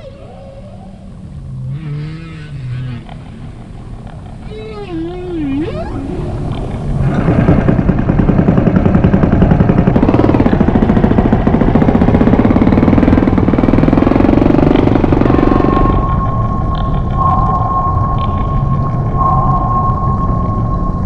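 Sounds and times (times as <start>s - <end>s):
underwater ship engine throbbing: 0.0s - 21.0s.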